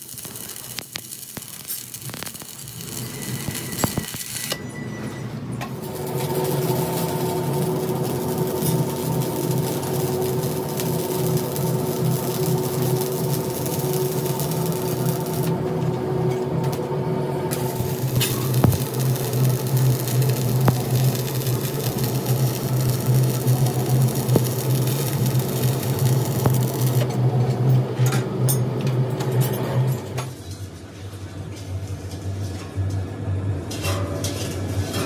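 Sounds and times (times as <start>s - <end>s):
welding arc crackling: 0.0s - 4.6s, 5.7s - 30.2s
low electrical hum: 0.0s - 35.0s.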